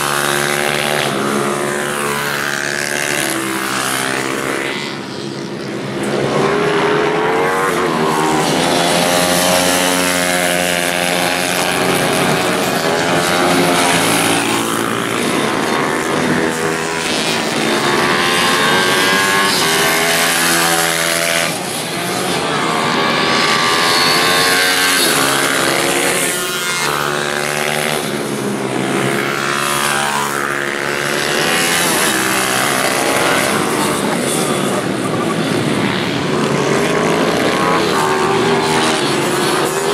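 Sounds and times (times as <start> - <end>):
small motorbike engines revving: 0.0 - 39.9.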